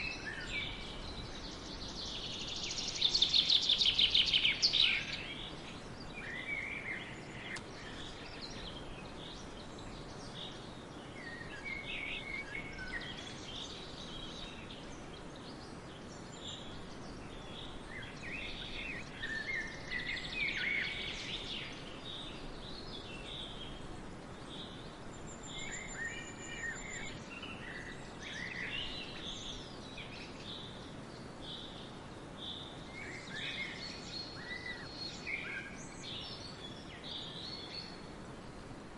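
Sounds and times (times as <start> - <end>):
birds singing and chirping: 0.0 - 38.6
background hiss: 0.0 - 38.9.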